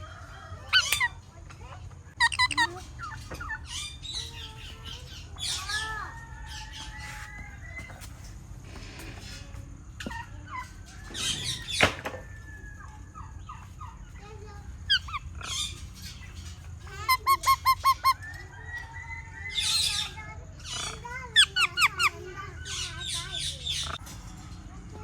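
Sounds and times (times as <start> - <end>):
parrots chirping and squawking: 0.0 - 8.0, 8.7 - 24.5.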